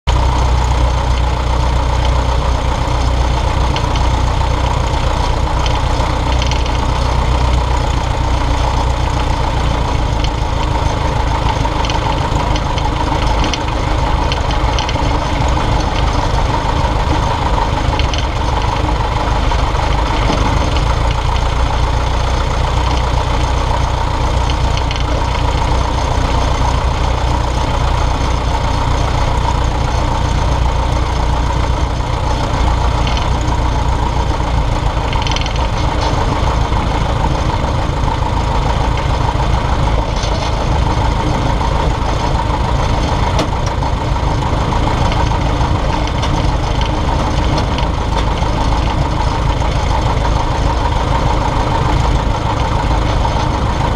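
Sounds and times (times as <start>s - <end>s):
light aircraft engine and propeller: 0.1s - 53.9s.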